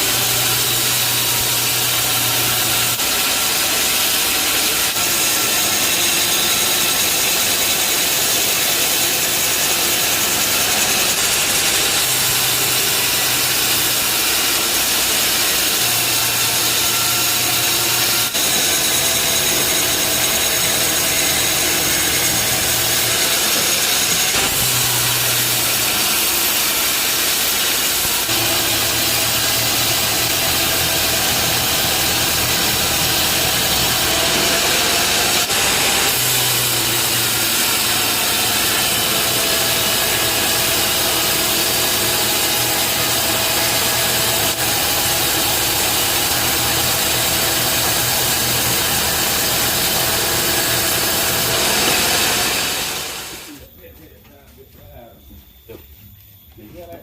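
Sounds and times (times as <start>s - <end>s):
bandsaw blade hissing through log: 0.0s - 53.6s.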